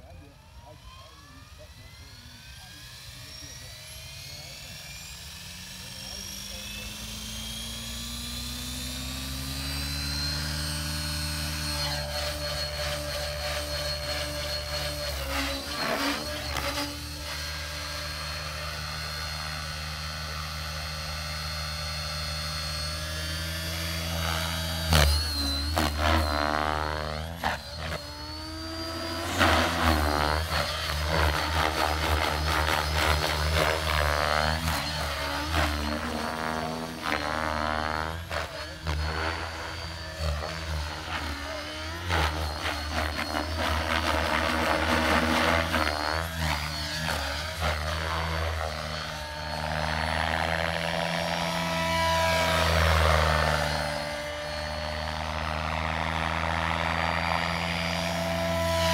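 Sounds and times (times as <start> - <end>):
model helicopter rotor whine: 0.0 - 58.9.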